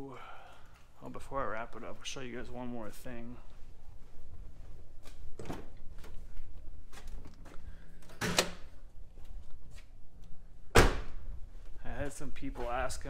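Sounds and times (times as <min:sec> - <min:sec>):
footsteps: 0:00.7 - 0:08.2, 0:09.0 - 0:10.4, 0:11.3 - 0:13.0.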